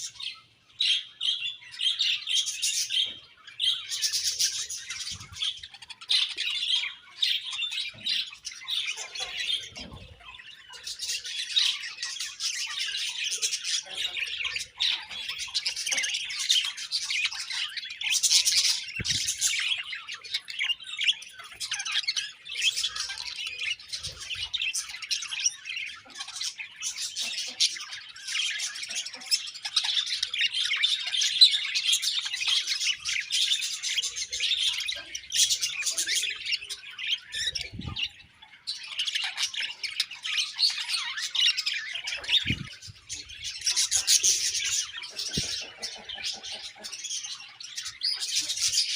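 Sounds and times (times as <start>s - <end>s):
flock of budgerigars chirping: 0.0s - 48.9s.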